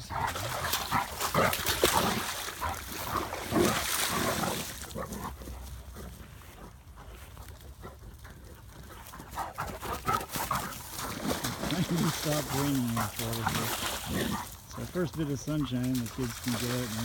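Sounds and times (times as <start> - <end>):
dog vocal sounds: 0.0 - 16.0
dogs splashing in shallow water: 0.0 - 17.0.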